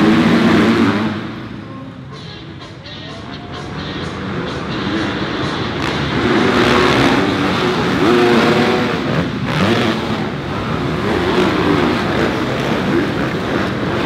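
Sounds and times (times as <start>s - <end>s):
motocross bikes revving: 0.0s - 1.7s, 2.7s - 14.0s.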